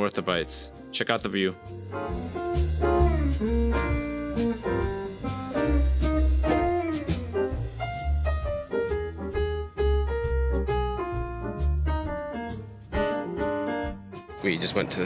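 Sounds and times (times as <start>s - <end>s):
instrumental music with heavy bass: 1.6s - 14.4s.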